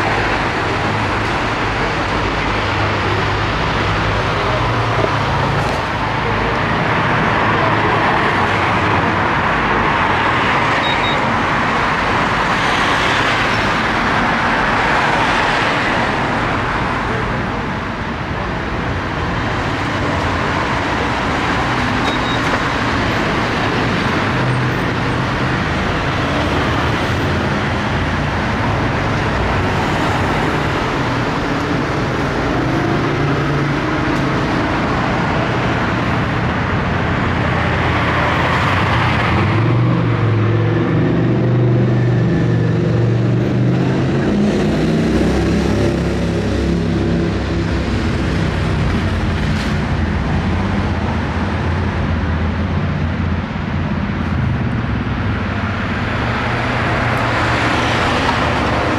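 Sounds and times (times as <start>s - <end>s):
cars passing on street: 0.0s - 58.9s.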